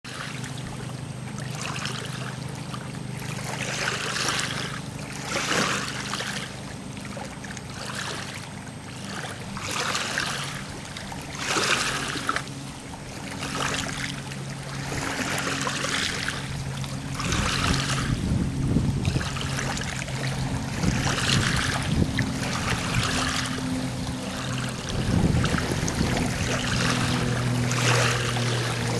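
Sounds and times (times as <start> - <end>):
low motor hum: 0.0 - 28.9
waves lapping on stony shore: 0.1 - 28.9.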